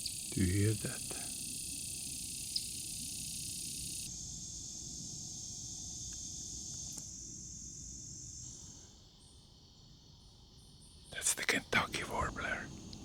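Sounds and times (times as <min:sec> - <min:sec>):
crickets chirping chorus: 0:00.0 - 0:13.0.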